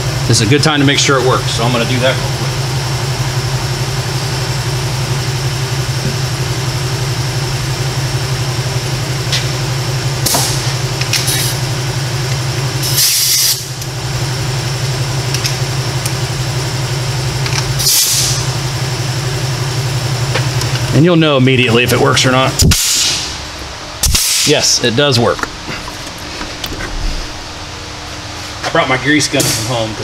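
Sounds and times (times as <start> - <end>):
exhaust fan humming: 0.0 - 30.0.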